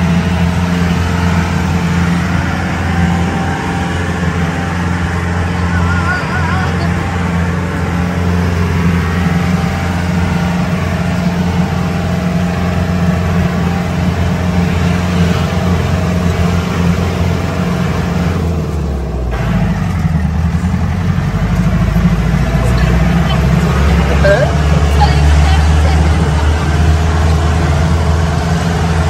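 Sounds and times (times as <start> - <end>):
engine running under load: 0.0 - 29.0.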